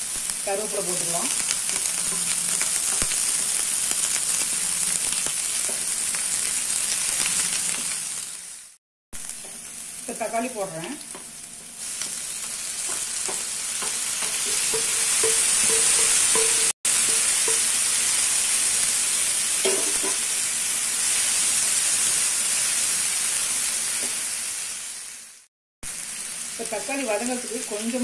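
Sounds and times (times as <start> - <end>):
tomatoes sizzling in hot oil: 0.0 - 28.0.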